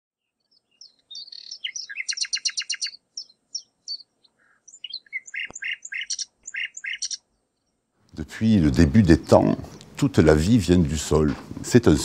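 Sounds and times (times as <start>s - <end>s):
birdsong chirps: 0.2s - 11.0s.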